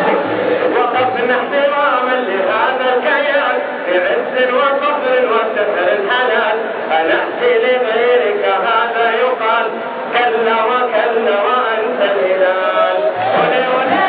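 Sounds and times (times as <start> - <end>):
crowd chanting: 0.0 - 14.0.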